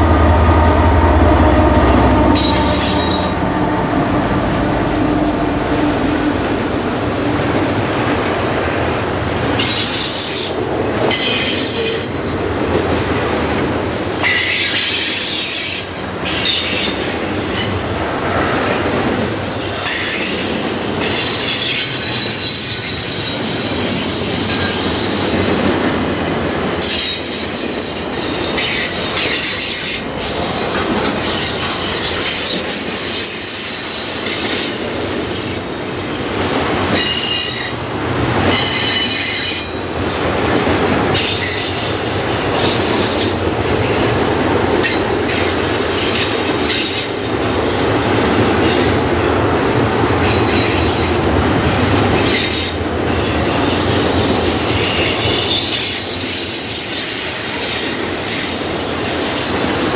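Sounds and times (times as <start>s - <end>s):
wheels squealing against rail: 0.0s - 8.6s, 9.5s - 12.2s, 13.5s - 59.9s
train wheels rumbling on rail: 0.0s - 59.9s.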